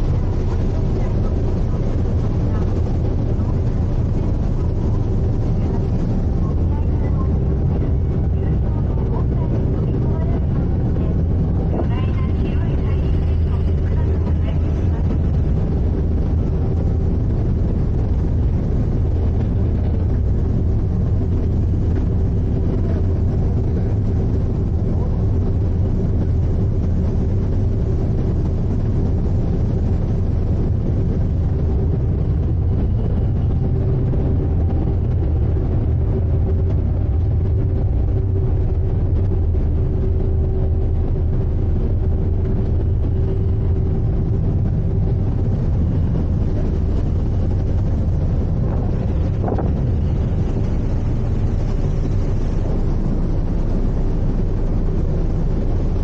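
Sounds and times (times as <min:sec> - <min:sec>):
ship engine low rumble: 0:00.0 - 0:56.0.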